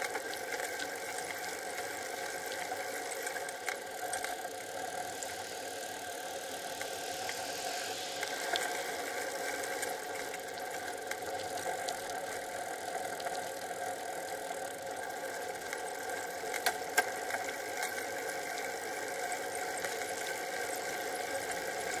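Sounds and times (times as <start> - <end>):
bicycle riding rattle: 0.0 - 22.0.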